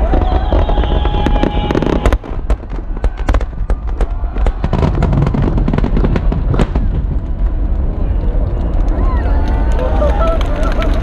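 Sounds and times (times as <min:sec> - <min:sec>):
fireworks crackling: 0:00.0 - 0:11.0
low rumble: 0:02.2 - 0:11.0.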